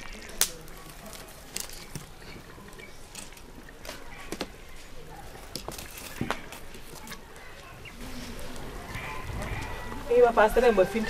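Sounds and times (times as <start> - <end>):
faint background voices: 0.0 - 11.0.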